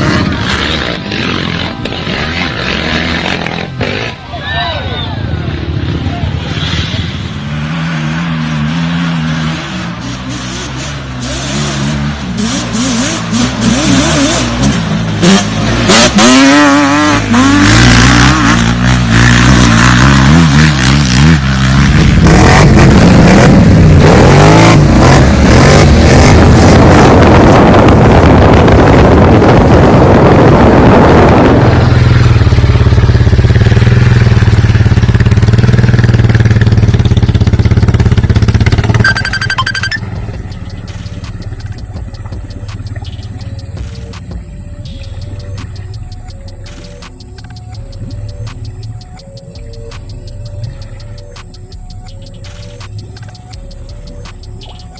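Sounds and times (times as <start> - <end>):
off-road vehicle engines revving: 0.0 - 39.1, 39.9 - 54.9.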